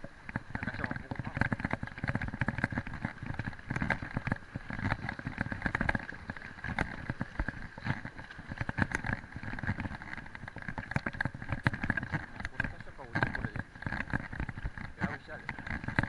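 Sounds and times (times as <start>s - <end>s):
bike rattling: 0.0s - 16.0s
low bumpy rumble: 0.0s - 16.0s.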